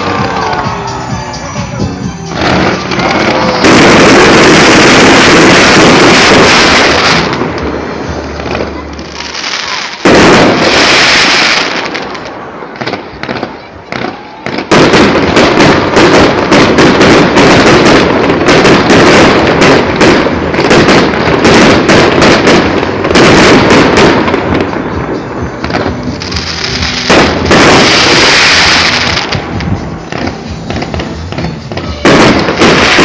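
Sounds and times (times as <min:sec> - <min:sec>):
fireworks bangs and crackles: 0:00.0 - 0:33.0
loud firework bang: 0:02.3 - 0:07.8, 0:08.4 - 0:24.9, 0:25.6 - 0:33.0.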